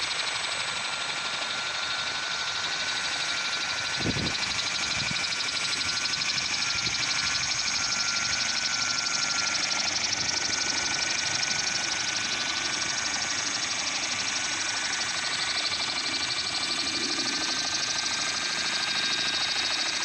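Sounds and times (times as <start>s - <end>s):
electric rotor whine: 0.0s - 20.0s.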